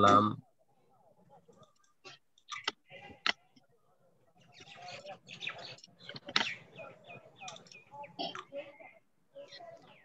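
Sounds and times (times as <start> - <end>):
birds chirping: 1.5 - 10.0.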